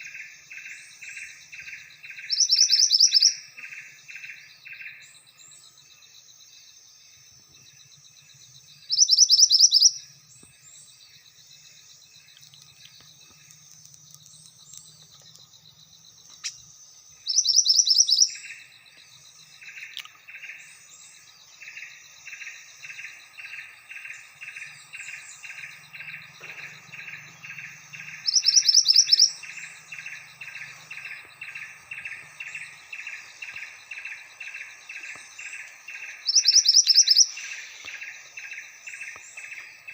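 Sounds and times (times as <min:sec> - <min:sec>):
high bird chirps: 0:00.0 - 0:05.7, 0:08.6 - 0:10.9, 0:12.2 - 0:39.9
lower pulsed bird notes: 0:00.0 - 0:39.9.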